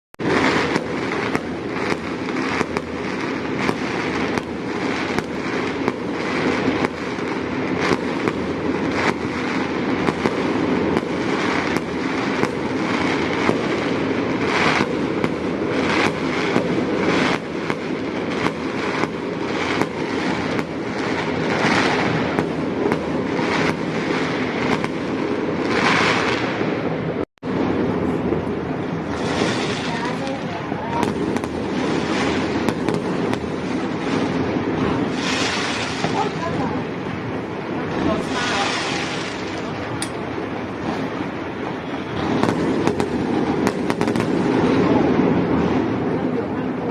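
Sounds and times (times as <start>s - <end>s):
fireworks bangs: 0.2s - 46.9s
rumble of fireworks bursts: 0.2s - 46.9s.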